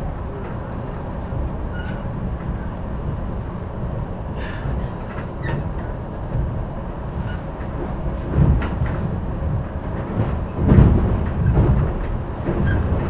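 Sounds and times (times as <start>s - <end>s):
train car rumbling on track: 0.0s - 13.0s.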